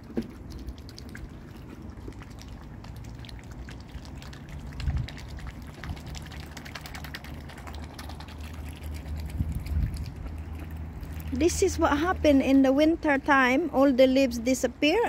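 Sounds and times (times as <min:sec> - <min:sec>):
swans dabbling at water: 0:00.0 - 0:15.0.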